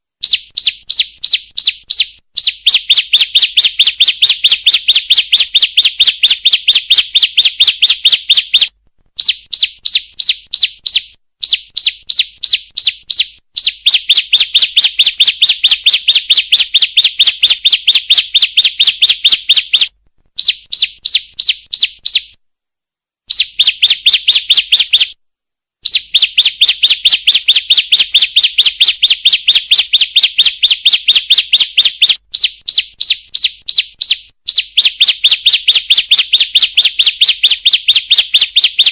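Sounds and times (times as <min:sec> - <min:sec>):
bird sharp high chirps: 0:00.2 - 0:22.4, 0:23.3 - 0:25.2, 0:25.8 - 0:38.9.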